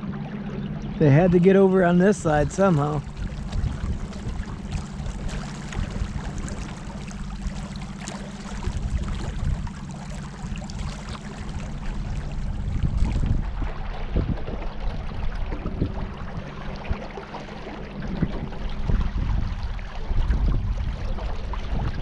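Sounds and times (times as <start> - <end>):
river water splashing against kayak: 0.0 - 22.0
steady low hum: 0.0 - 22.0.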